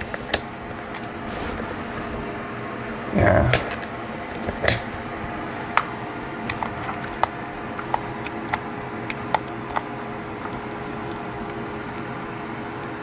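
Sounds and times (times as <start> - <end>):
steady low hum: 0.8 - 13.0.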